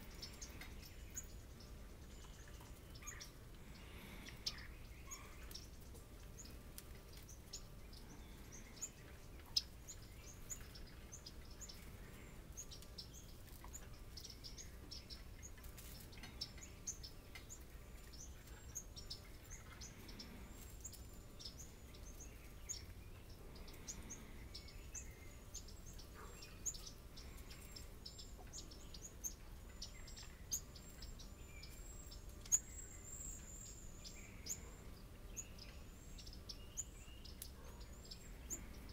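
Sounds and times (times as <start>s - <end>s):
songbirds chipping: 0.0s - 38.9s.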